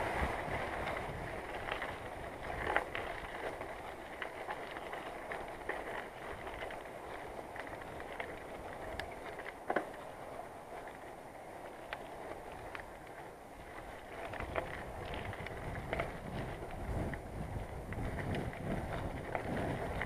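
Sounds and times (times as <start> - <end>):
bicycle tyres rolling: 0.0 - 20.0
bike clicks and rattles: 0.0 - 20.0
wind rumble on microphone: 0.0 - 20.0.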